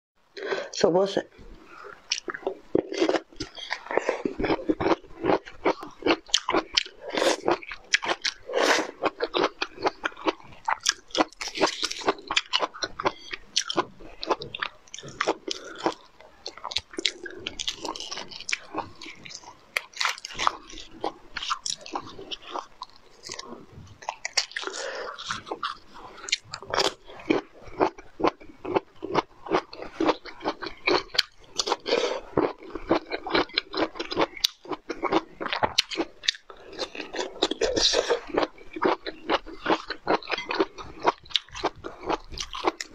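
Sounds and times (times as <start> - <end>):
person chewing crunchy food: 1.4 - 42.9.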